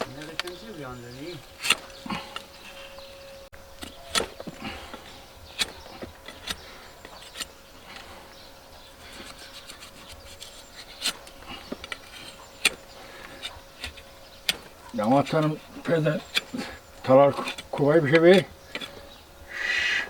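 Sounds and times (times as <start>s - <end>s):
tools clicking on a hoof: 0.0s - 2.8s, 3.8s - 8.2s, 8.8s - 19.2s.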